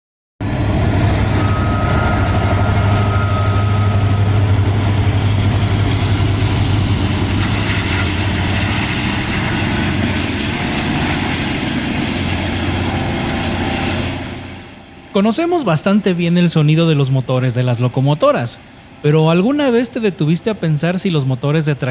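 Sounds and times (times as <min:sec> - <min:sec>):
high whine rising in pitch: 0:00.4 - 0:20.0
locomotive engine drone: 0:00.4 - 0:21.9.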